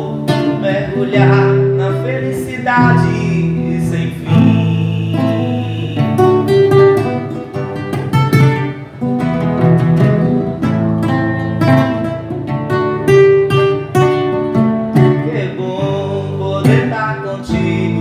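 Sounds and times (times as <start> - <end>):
acoustic guitar picking and strumming: 0.0 - 18.0.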